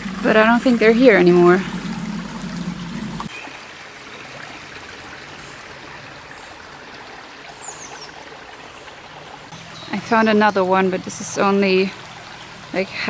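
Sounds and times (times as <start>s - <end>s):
creek water trickling: 0.0s - 13.0s.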